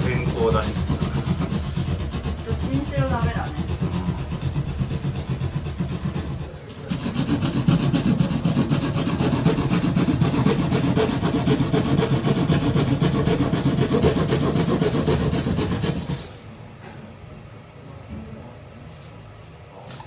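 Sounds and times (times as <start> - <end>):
saw cutting wood: 0.0 - 16.4.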